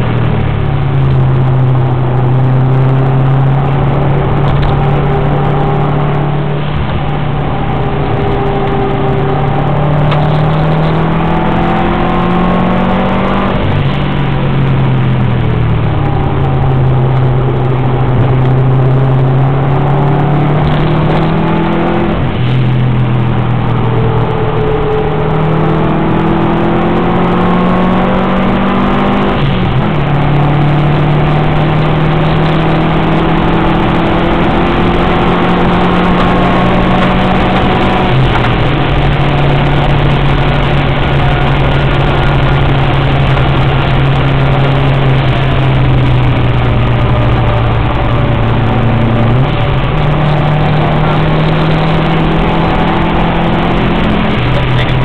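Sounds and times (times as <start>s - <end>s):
car engine pulling hard: 0.0s - 55.0s
tyre and wind noise: 0.0s - 55.0s.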